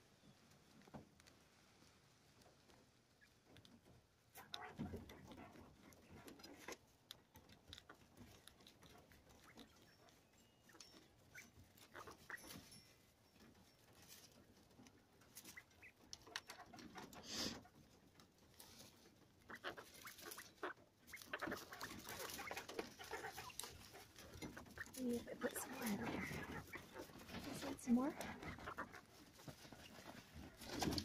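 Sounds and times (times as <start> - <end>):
quail taps and shuffling: 0.0 - 31.0.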